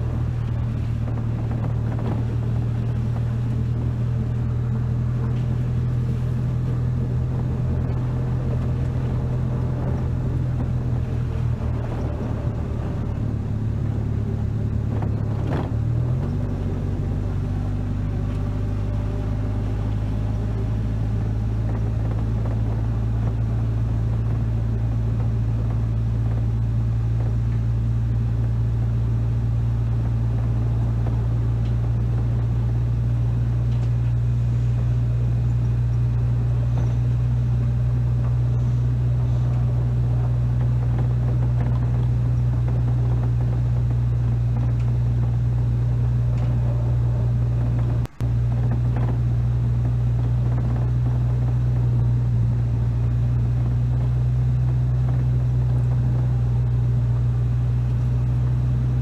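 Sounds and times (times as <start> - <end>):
vehicle engine droning: 0.0 - 59.0.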